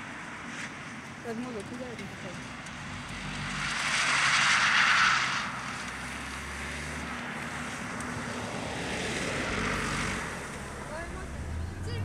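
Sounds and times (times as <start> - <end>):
car engine driven hard: 2.2 - 12.0.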